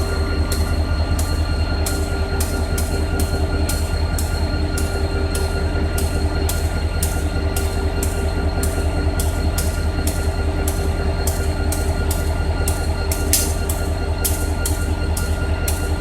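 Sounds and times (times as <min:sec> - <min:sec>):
train rumbling slowly: 0:00.0 - 0:16.0.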